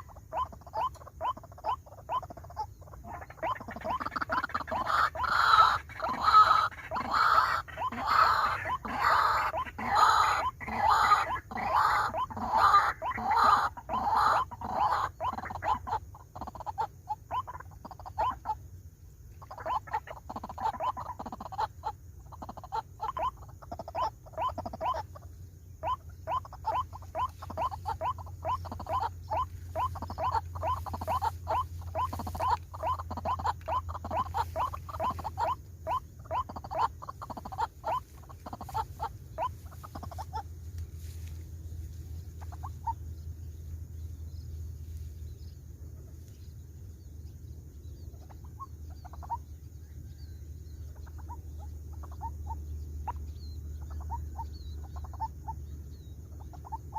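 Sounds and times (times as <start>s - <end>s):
waterhen croaking calls: 0.0s - 18.8s, 19.4s - 44.5s, 47.8s - 56.9s.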